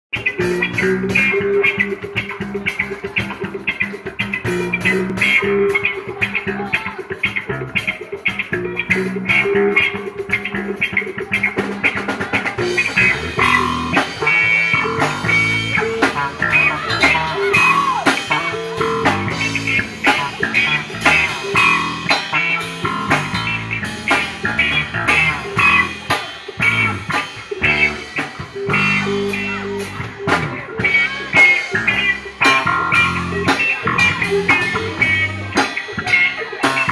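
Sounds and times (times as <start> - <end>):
guitar: 0.1 - 36.9
live band instrumental music: 0.1 - 36.9.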